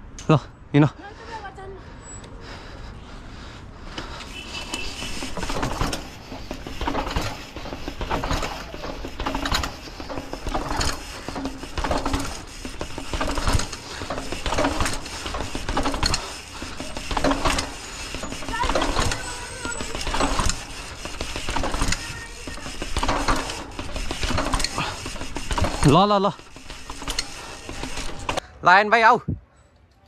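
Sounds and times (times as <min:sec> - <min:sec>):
bike drivetrain clicking and rattling: 0:03.3 - 0:28.5.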